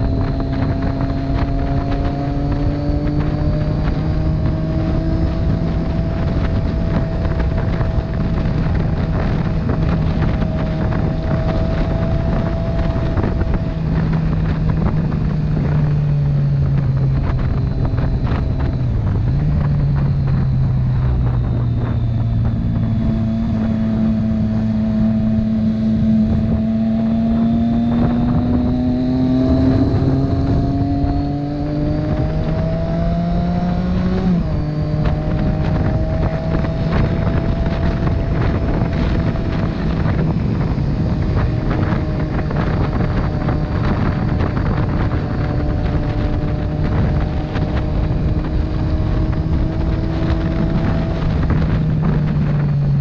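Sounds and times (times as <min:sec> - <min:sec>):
motorcycle engine running: 0:00.0 - 0:53.0
wind noise on microphone: 0:00.0 - 0:53.0.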